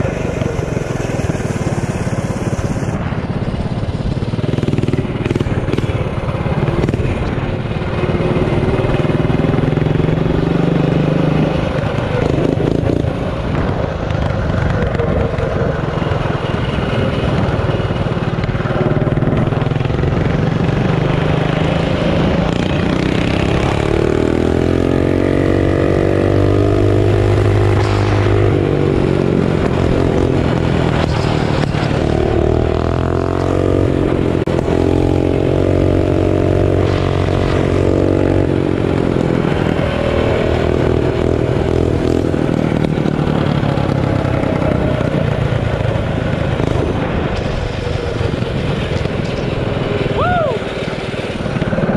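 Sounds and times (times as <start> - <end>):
mini bike engine revving: 0.0 - 51.9.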